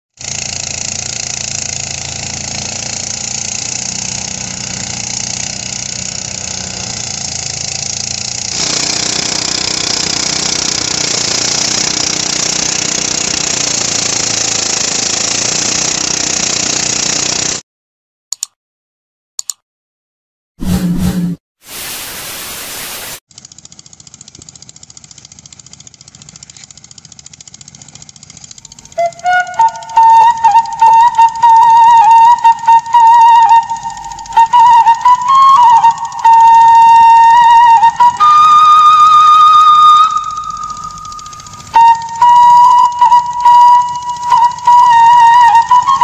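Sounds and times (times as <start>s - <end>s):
small engine hum: 0.2s - 17.6s, 23.3s - 46.0s.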